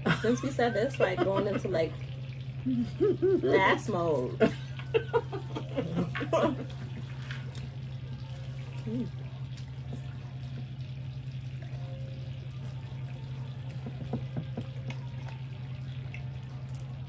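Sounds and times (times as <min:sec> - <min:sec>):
drink bubbling and fizzing: 0:00.0 - 0:17.0
low hum: 0:00.0 - 0:17.0.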